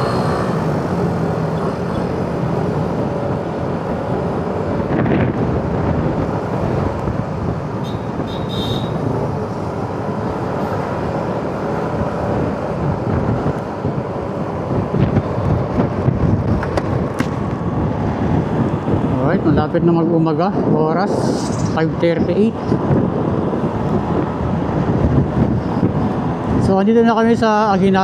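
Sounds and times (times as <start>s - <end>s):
tyre and road noise: 0.0s - 28.0s
wind rushing over microphone: 0.0s - 28.0s.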